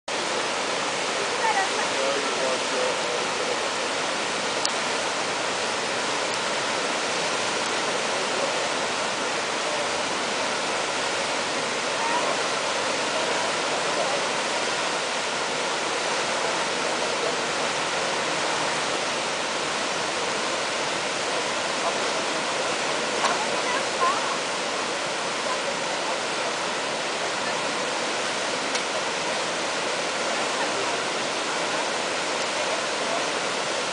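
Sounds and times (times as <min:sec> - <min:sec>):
whitewater rushing: 0:00.1 - 0:33.9.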